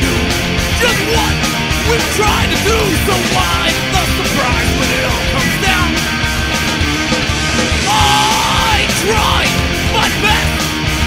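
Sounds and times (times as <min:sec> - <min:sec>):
distorted electric guitars: 0:00.0 - 0:11.0
pounding drum beat: 0:00.0 - 0:11.0.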